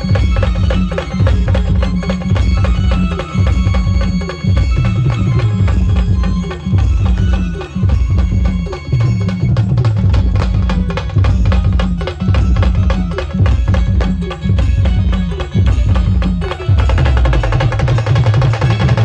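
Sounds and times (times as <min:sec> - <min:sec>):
drums beating: 0:00.0 - 0:19.0.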